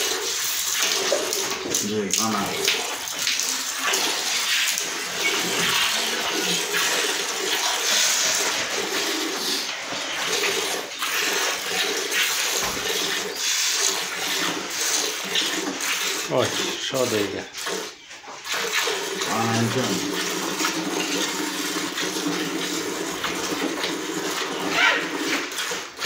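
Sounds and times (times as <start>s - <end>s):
milk squirting into a pail: 0.0s - 26.0s.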